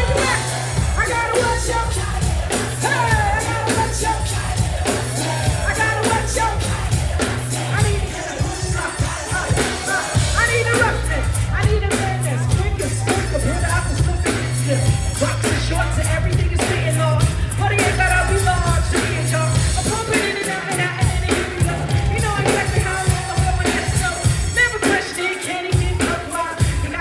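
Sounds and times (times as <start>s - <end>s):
pulsing bass beat: 0.0s - 24.7s
live hip hop music: 0.0s - 27.0s
vocals: 0.0s - 27.0s.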